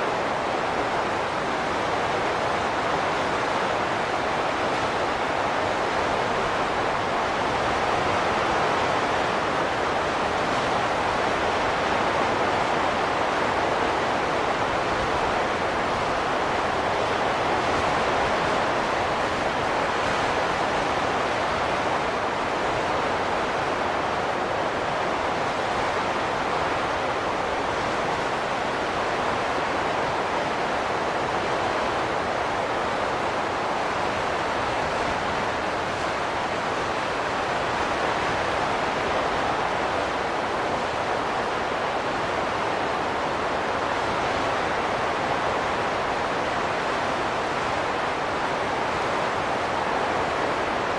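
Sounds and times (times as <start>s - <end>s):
howling wind: 0.0s - 50.9s.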